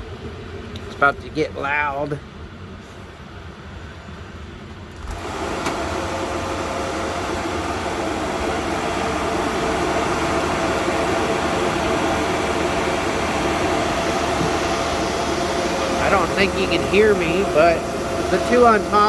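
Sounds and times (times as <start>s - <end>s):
cooling fans humming: 0.0s - 19.0s.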